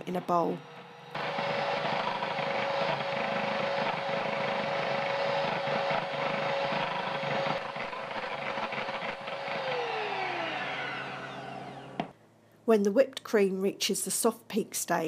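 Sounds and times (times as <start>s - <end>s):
electric hand mixer whirring: 0.0s - 12.1s.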